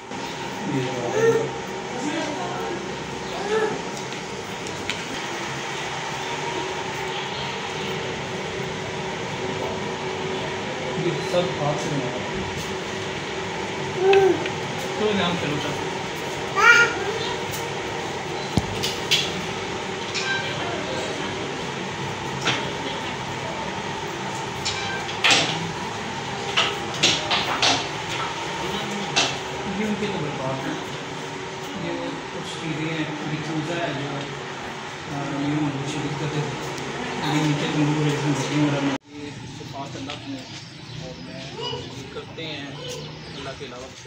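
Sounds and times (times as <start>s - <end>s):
steady background hum: 0.0s - 44.0s.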